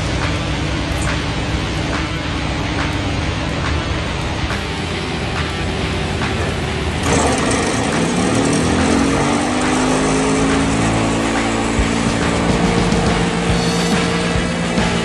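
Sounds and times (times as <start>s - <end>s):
vibratory pile hammer drone: 0.0s - 15.0s.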